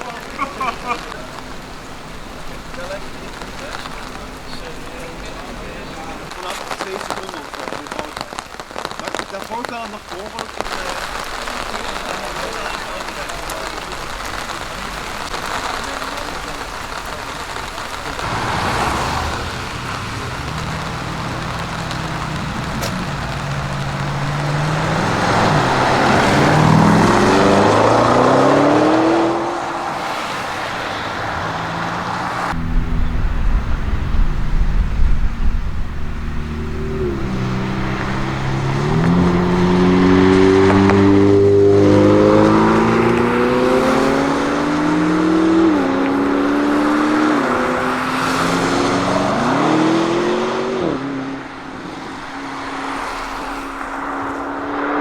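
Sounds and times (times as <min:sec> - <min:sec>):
car engine accelerating: 0:10.4 - 0:55.0.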